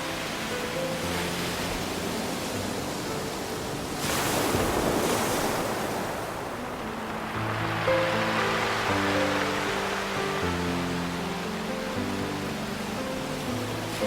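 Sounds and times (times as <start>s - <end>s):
soft background music: 0.0s - 14.0s
surf washing on pebble beach: 0.0s - 14.0s.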